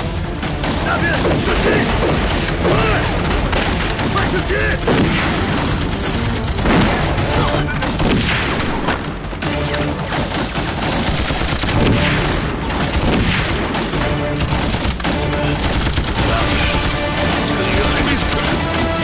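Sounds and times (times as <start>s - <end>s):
rifle shots: 0.0s - 19.0s
machine-gun bursts: 3.4s - 19.0s.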